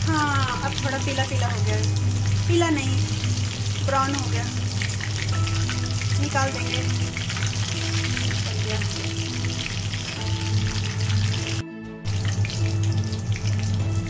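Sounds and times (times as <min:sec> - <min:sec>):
chicken deep-frying in oil: 0:00.0 - 0:14.0
slow background music: 0:00.0 - 0:14.0.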